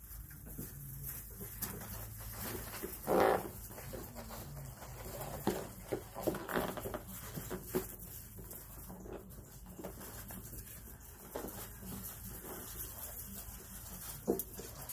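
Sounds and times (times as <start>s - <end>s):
puppies scuffling: 0.0s - 14.9s.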